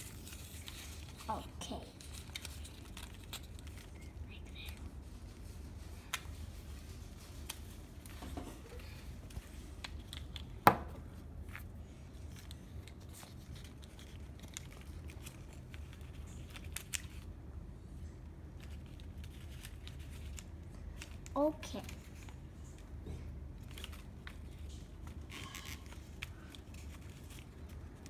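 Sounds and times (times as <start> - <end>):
paper rustling: 0.0 - 10.5, 11.4 - 17.3, 18.5 - 22.8, 23.6 - 28.0.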